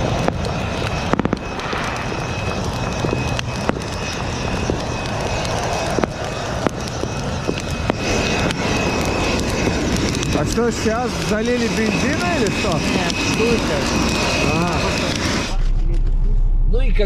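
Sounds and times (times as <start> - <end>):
fireworks bangs and pops: 0.0 - 16.2.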